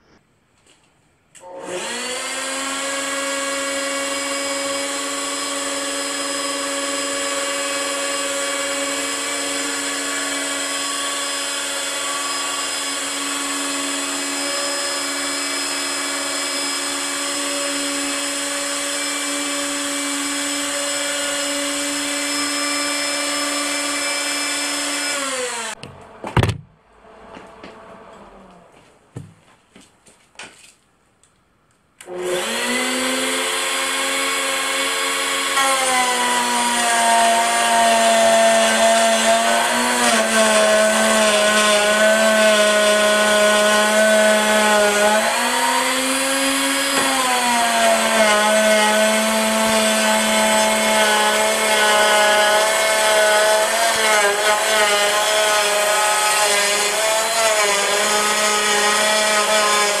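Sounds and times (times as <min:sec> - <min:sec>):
router cutting aluminium whine: 0:01.4 - 0:28.7, 0:32.0 - 1:00.0.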